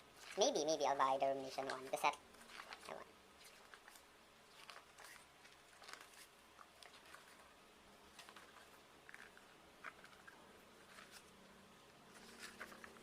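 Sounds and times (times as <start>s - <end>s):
paper rustling: 0.1s - 11.4s, 12.1s - 13.0s.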